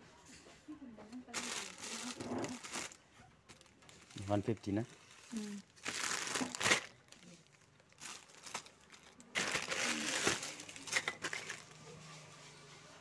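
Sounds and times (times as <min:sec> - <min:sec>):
plastic packets crinkling: 0:01.3 - 0:11.8.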